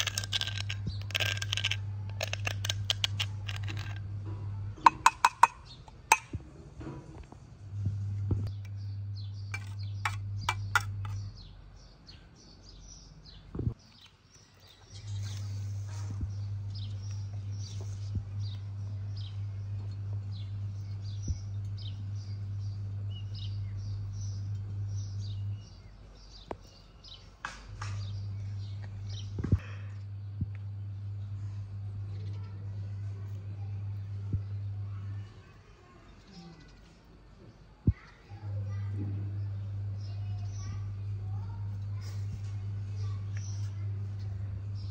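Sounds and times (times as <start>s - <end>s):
steady low hum: 0.0s - 44.9s
small birds chirping: 8.4s - 44.9s.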